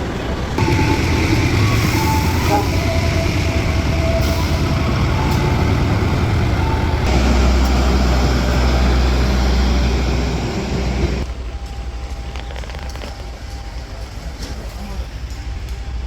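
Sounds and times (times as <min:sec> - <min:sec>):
train rumble on board: 0:00.0 - 0:16.0.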